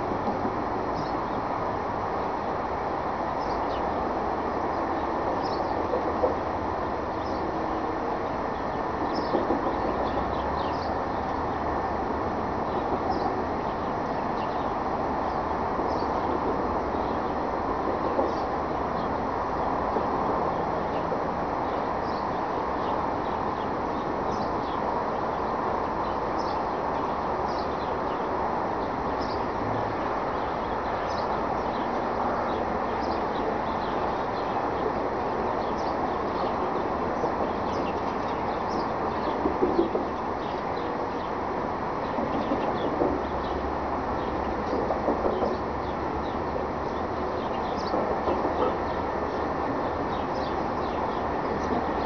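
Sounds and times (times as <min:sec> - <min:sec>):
steady outdoor rumble: 0:00.0 - 0:52.0
small birds chirping: 0:00.8 - 0:01.5, 0:03.3 - 0:04.0, 0:04.6 - 0:06.1, 0:07.1 - 0:07.5, 0:08.5 - 0:11.3, 0:12.6 - 0:19.7, 0:21.6 - 0:41.4, 0:42.0 - 0:52.0.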